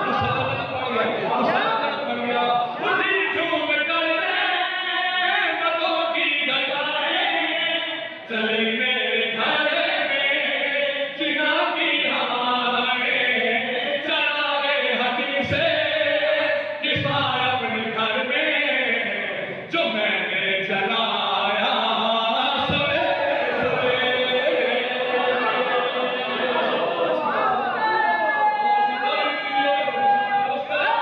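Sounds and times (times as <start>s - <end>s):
man chanting into microphone: 0.0s - 26.4s.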